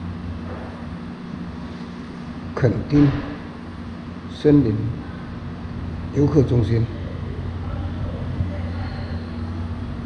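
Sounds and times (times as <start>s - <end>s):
air conditioning humming: 0.0s - 10.0s.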